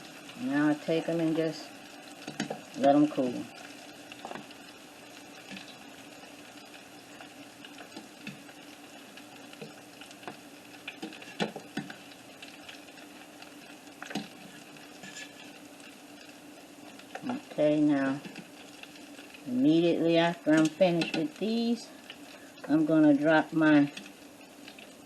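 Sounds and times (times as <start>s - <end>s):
frying oil sizzling and popping: 0.0s - 25.0s.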